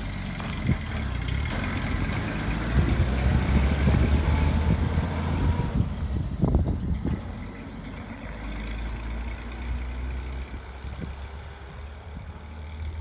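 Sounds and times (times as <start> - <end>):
truck engine low rumble: 0.0 - 13.0.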